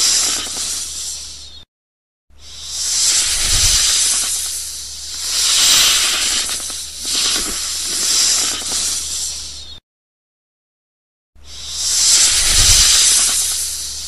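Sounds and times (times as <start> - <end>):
snake hissing: 0.0 - 1.6, 2.4 - 9.8, 11.4 - 14.0.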